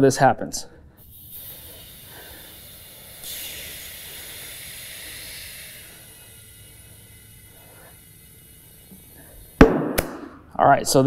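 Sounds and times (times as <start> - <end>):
compressed air hissing: 0.9 - 10.5.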